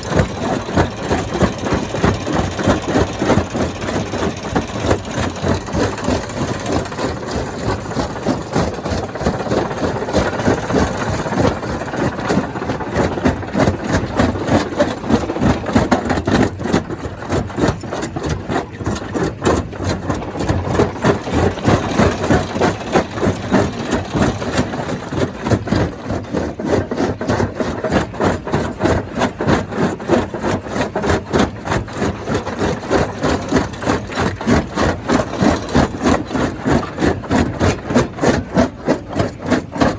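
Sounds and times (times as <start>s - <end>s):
stone crusher machinery pulsing: 0.0s - 39.9s.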